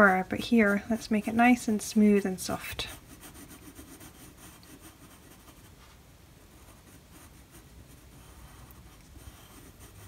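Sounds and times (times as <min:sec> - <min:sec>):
pencil scratching on paper: 0:00.0 - 0:10.0.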